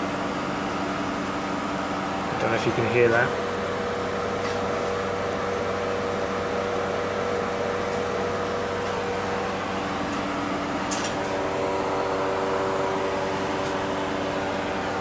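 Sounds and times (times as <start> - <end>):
machine hum of held tones: 0.0 - 15.0.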